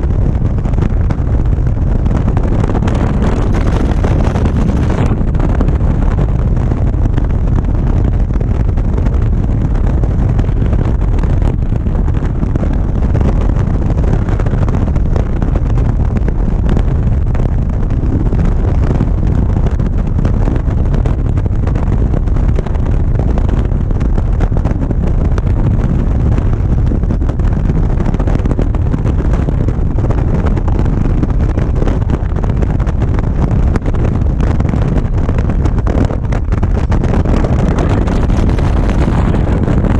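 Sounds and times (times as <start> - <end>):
motorcycle engine rumble: 0.0 - 39.9
wind buffeting microphone: 0.0 - 39.9.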